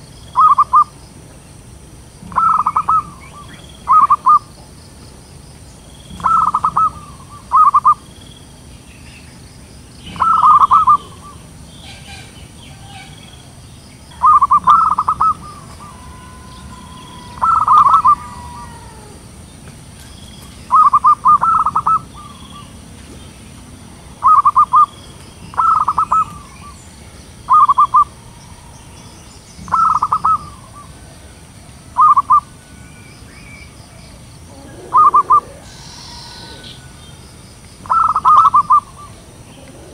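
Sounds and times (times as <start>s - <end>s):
dove trilling coos: 0.0s - 1.0s, 2.2s - 4.6s, 6.1s - 8.2s, 10.0s - 19.6s, 20.4s - 39.9s.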